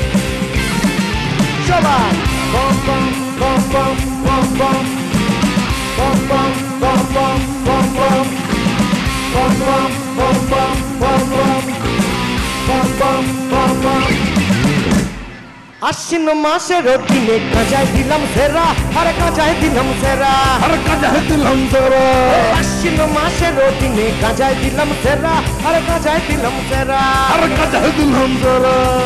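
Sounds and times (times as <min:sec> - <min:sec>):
drum kit: 0:00.0 - 0:15.4, 0:17.0 - 0:29.0
bass guitar: 0:00.0 - 0:15.6, 0:16.8 - 0:29.0
electric guitar lead: 0:00.0 - 0:29.0.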